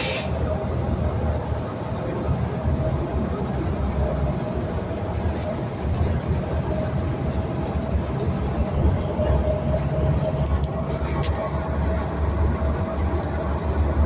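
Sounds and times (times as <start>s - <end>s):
bus engine and road rumble: 0.0s - 14.0s
constant whine: 0.0s - 14.0s.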